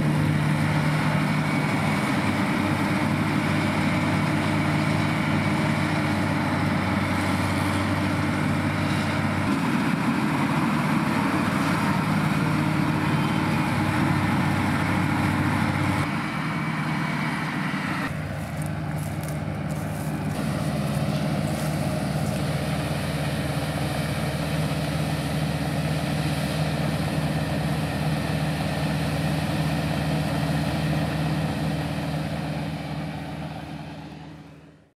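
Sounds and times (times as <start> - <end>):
combine harvester humming: 0.0 - 34.9.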